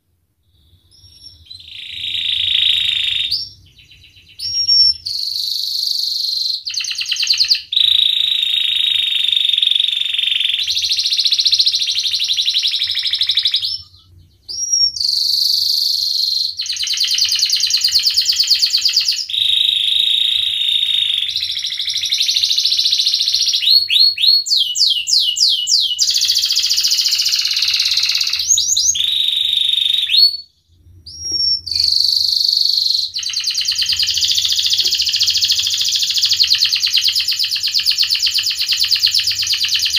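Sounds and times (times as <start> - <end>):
canary singing trills: 0.4 - 39.9.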